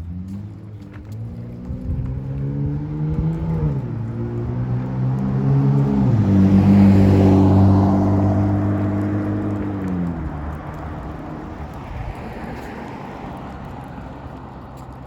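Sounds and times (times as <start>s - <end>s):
car engine accelerating: 0.0s - 15.0s
road noise rumble: 0.0s - 15.0s.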